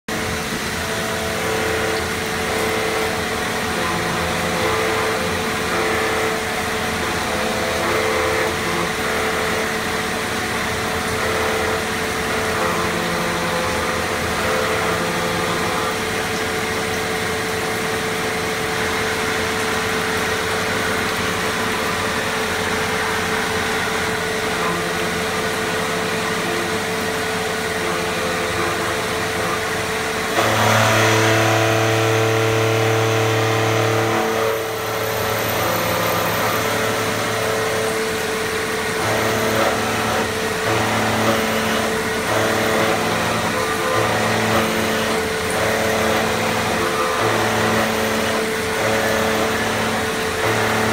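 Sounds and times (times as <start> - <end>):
cutter cutting metal: 0.0 - 50.9
milling machine spindle whine: 0.0 - 50.9
coolant spraying: 0.1 - 50.9.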